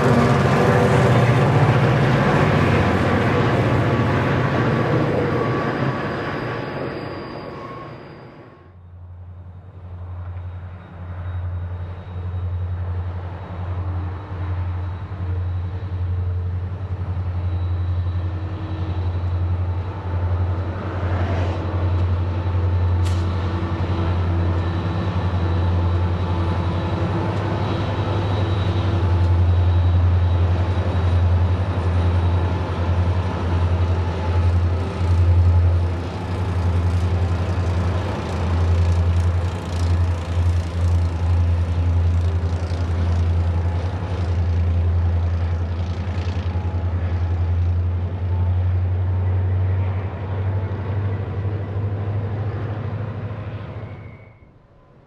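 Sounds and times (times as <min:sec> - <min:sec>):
diesel locomotive engine throb: 0:00.0 - 0:54.4.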